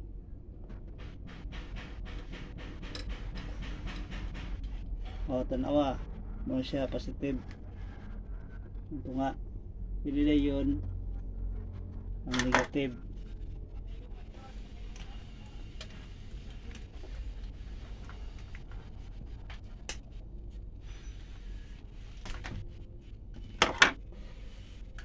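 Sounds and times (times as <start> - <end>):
low steady hum: 4.6 - 25.0.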